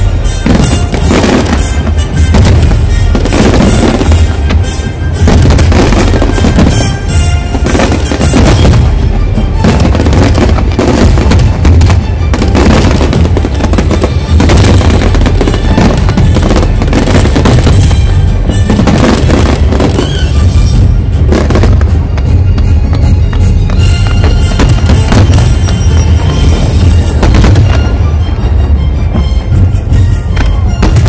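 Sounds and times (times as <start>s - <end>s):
fireworks crackling and booming: 0.0s - 31.0s.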